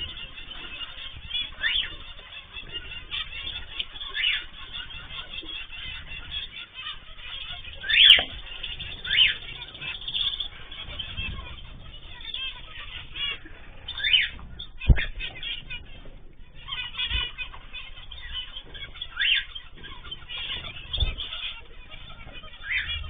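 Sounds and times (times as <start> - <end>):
cage birds chirping: 0.0 - 23.0
wings flapping: 0.0 - 23.0.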